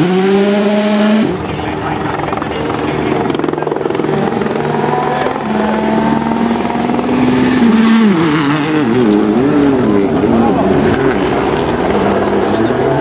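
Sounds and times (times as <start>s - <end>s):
engine running with rapid flutter: 1.2s - 13.0s.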